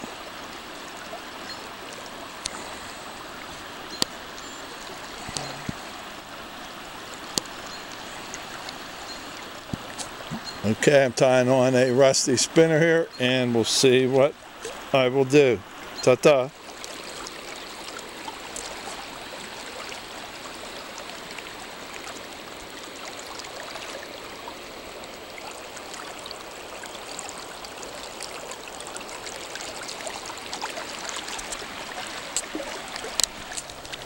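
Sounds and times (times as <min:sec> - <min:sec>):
creek water rushing: 0:00.0 - 0:34.0.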